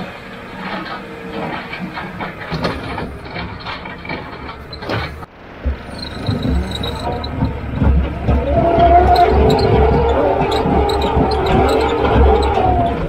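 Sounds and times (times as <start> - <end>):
engine drone inside cab: 0.0 - 13.0
loader running and rattling: 0.0 - 13.0.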